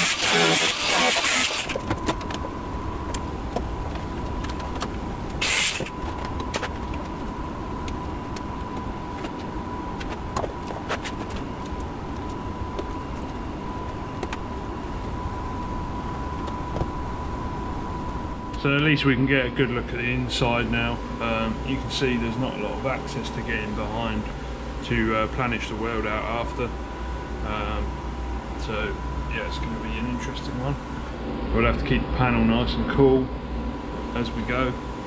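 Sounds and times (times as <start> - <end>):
steady high hum: 0.0 - 35.0.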